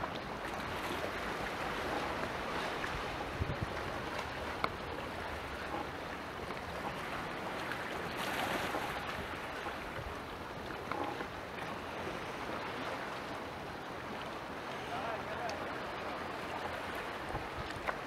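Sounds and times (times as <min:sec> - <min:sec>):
water lapping: 0:00.0 - 0:18.0.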